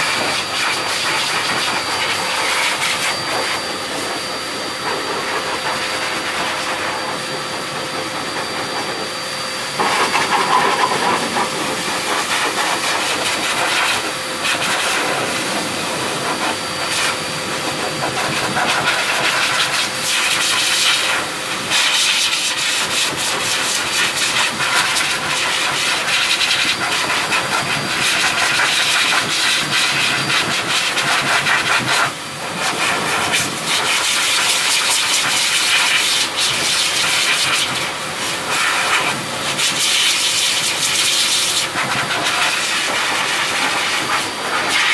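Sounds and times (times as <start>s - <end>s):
dog dryer air rush: 0.0s - 44.9s.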